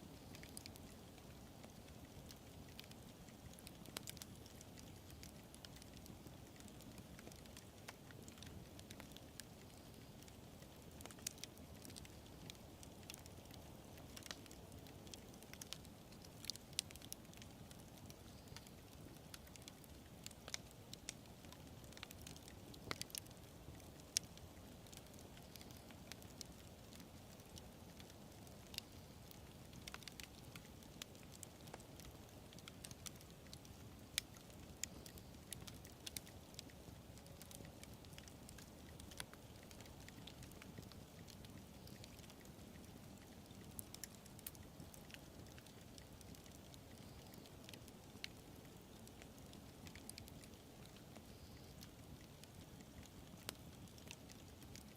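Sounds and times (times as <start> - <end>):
wood fire snaps and pops: 0.1 - 54.9.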